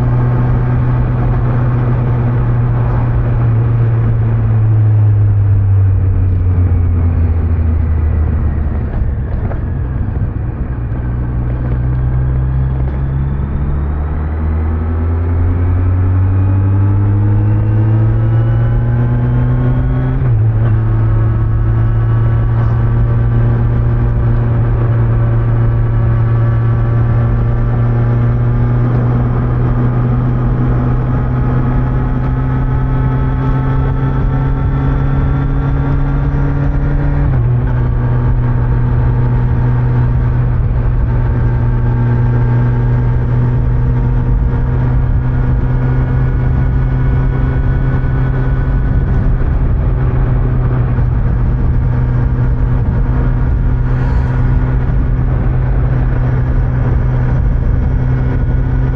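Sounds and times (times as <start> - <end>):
motorcycle engine running: 0.0 - 58.9
wind and road rumble: 0.0 - 58.9.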